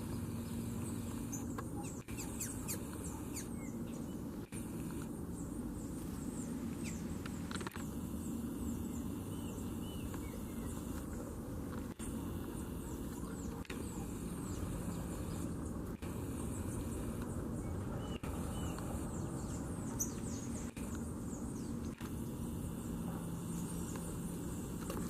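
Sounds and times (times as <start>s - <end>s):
steady low rumble: 0.0s - 24.9s
small birds chirping: 0.0s - 25.0s.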